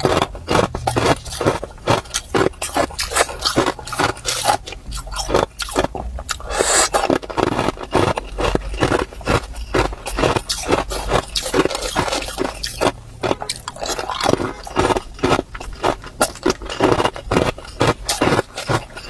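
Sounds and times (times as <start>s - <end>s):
ice cubes crunched between teeth: 0.0s - 19.0s.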